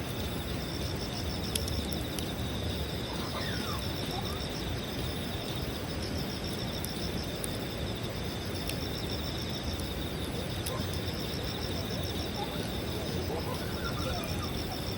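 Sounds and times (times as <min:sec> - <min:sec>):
campfire crackling and popping: 0:00.0 - 0:14.9
night insects chirping: 0:00.0 - 0:14.9.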